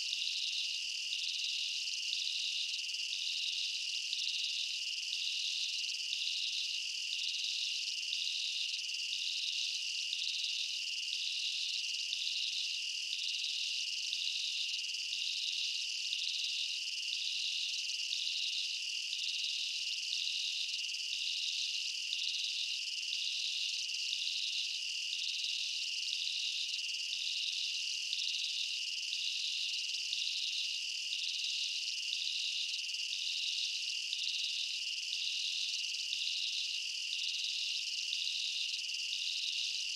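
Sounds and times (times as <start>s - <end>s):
insect pulsing chirp: 0.1s - 39.9s.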